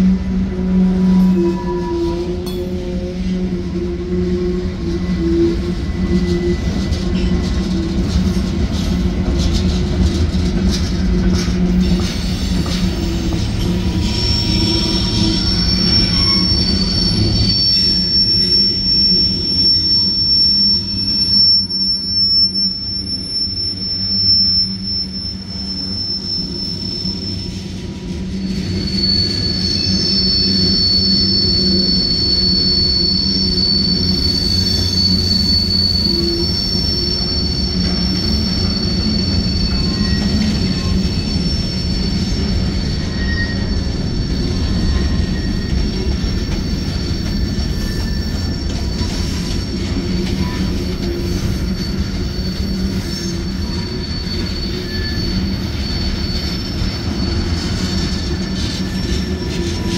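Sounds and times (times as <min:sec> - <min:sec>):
freight train cars rumbling: 0:00.0 - 0:59.9
steel wheel squeal: 0:00.0 - 0:59.9.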